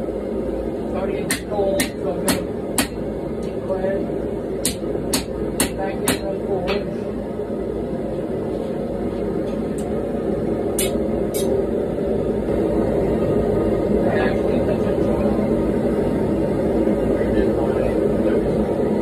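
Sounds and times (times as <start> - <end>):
gas burner rushing: 0.0 - 19.0.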